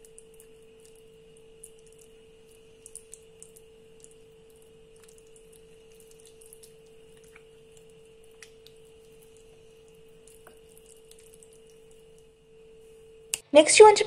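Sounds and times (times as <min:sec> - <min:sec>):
hand squishing marinade into meat: 0:00.0 - 0:13.4.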